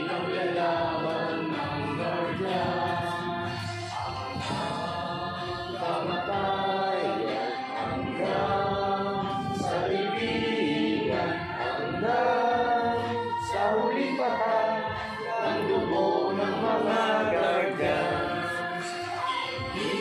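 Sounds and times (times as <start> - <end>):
group singing slowly: 0.0 - 20.0.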